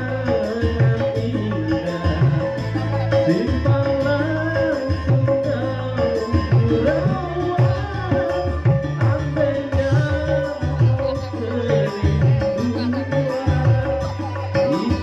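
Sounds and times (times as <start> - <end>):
hand-drum beat: 0.0 - 15.0.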